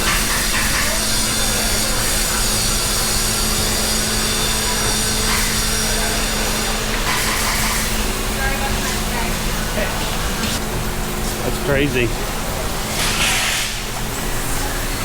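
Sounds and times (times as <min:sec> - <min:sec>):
factory machinery hum: 0:00.0 - 0:15.0
harsh machinery noise: 0:00.0 - 0:15.0.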